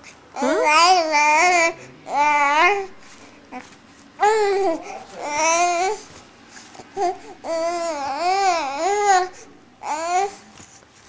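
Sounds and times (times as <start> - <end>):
baby babbling and cooing: 0.3 - 6.1, 6.8 - 10.4.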